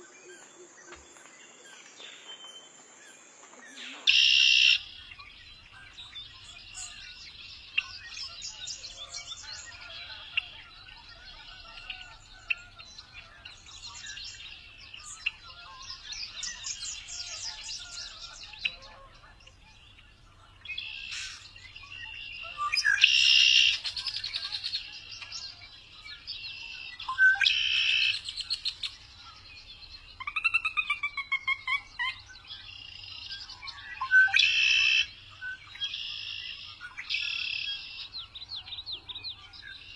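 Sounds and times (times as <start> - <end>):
birds chirping and singing: 0.0 - 39.9
harsh bird calls: 3.8 - 39.9.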